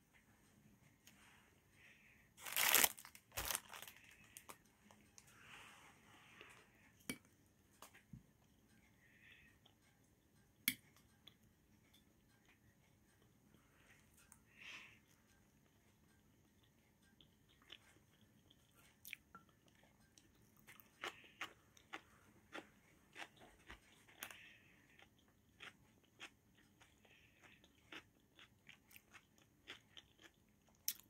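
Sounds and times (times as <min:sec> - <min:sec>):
person chewing food: 0:01.1 - 0:05.6, 0:06.2 - 0:31.0.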